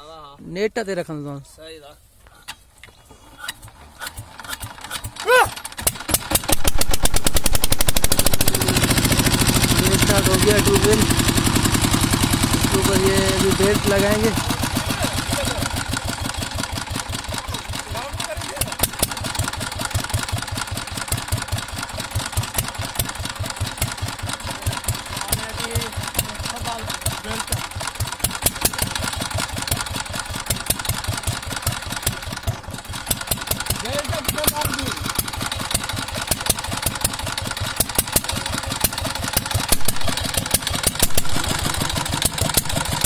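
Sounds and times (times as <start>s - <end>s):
diesel engine idling: 3.8s - 43.0s.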